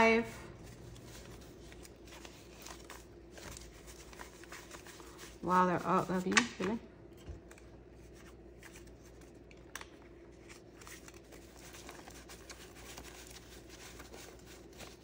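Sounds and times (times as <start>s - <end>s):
paper banknotes rustling: 0.6s - 6.8s, 7.5s - 15.0s.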